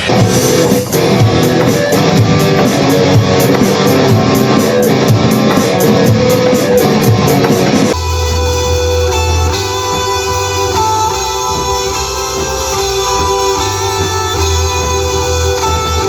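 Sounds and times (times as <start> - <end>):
drum hits: 0.0 - 16.0
held guitar notes: 0.0 - 16.0
low bass: 0.0 - 16.0
rock band playing guitars: 0.0 - 16.0.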